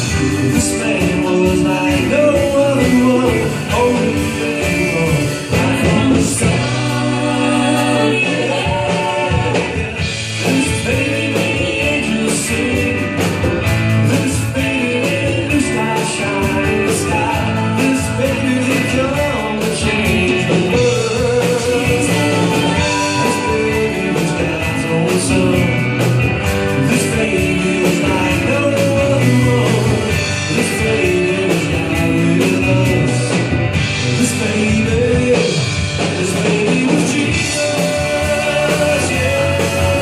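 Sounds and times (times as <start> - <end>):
upbeat live band music: 0.0 - 40.0.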